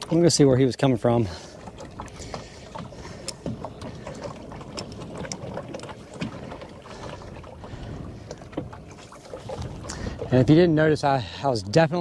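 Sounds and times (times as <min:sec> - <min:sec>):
water slapping boat hull: 0:00.0 - 0:12.0.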